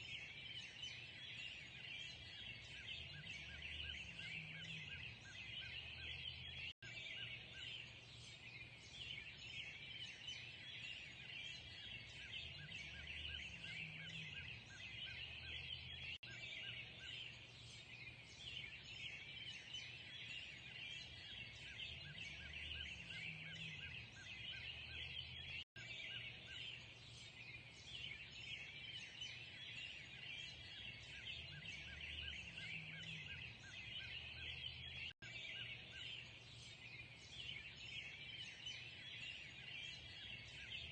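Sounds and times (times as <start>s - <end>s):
chorus of birds chirping: 0.0s - 40.9s.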